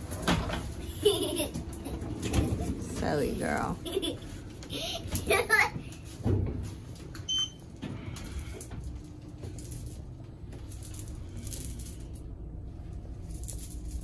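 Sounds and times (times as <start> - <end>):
elevator hum and rumble: 0.0 - 14.0.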